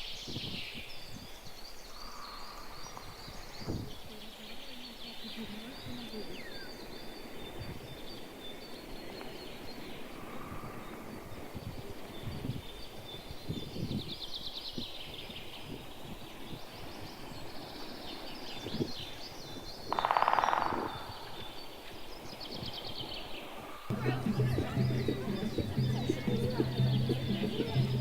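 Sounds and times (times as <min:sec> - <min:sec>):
birds calling and chirping: 0:00.0 - 0:28.0.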